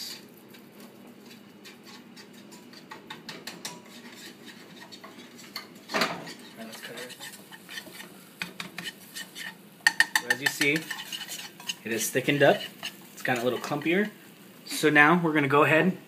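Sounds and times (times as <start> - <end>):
metal whisk scraping a pan: 0.0 - 14.1.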